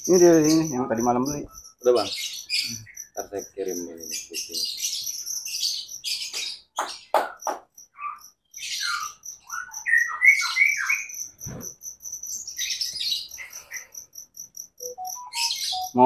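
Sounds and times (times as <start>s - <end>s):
bird chipping: 0.0s - 16.0s
whistled birdsong: 0.0s - 16.0s.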